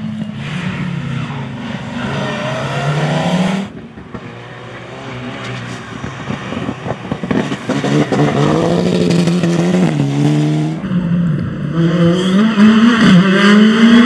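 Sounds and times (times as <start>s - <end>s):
rally car accelerating hard: 0.0s - 14.0s
rally car approaching: 0.0s - 14.0s.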